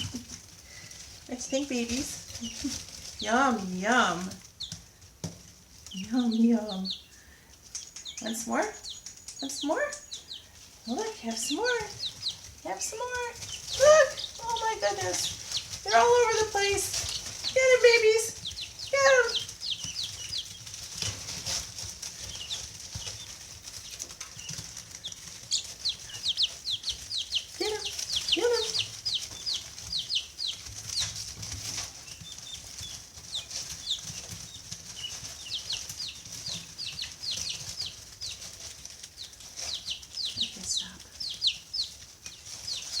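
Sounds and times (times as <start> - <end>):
chicks peeping: 0.0 - 43.0.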